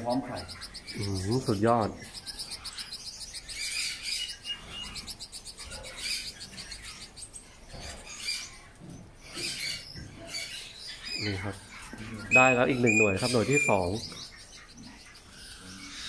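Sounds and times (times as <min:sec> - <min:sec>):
canaries chirping and trilling: 0:00.0 - 0:16.0.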